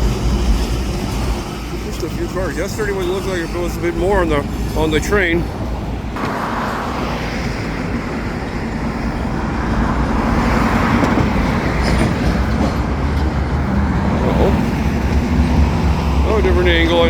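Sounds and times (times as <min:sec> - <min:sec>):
diesel locomotives humming: 0:00.0 - 0:17.0
road traffic: 0:00.0 - 0:17.0.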